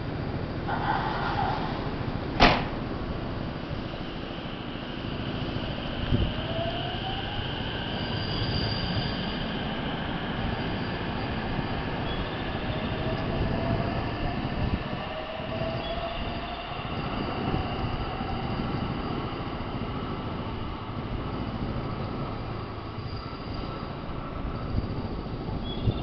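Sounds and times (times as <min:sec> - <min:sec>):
electric train accelerating: 0:00.7 - 0:26.0.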